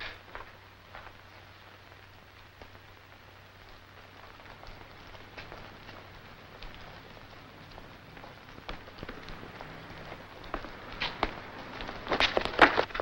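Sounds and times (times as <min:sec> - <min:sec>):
crackles and clicks: 0:00.0 - 0:13.0
film soundtrack hiss: 0:00.0 - 0:13.0.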